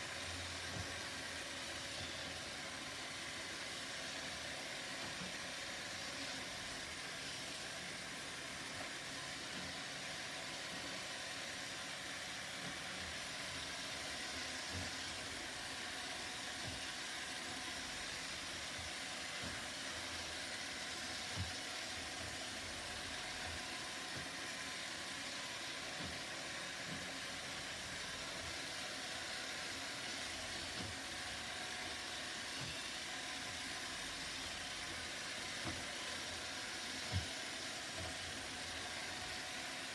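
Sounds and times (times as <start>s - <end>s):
robot vacuum whirring: 0.1s - 39.9s.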